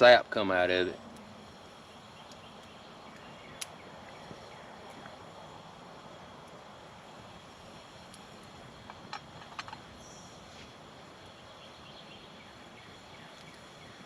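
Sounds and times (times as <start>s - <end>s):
campfire crackles and pops: 0.0s - 14.0s.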